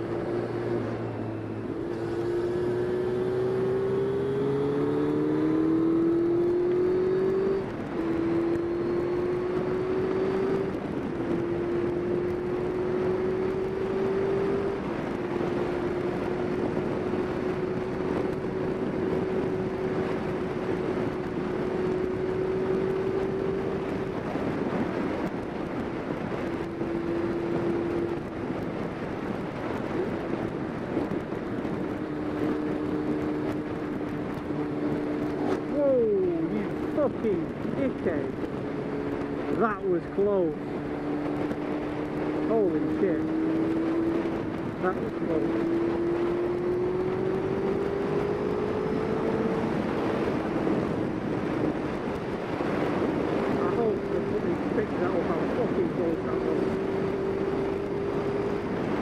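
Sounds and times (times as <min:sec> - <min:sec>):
motorcycle engine running: 0:00.0 - 0:59.0
wind rushing: 0:00.0 - 0:59.0.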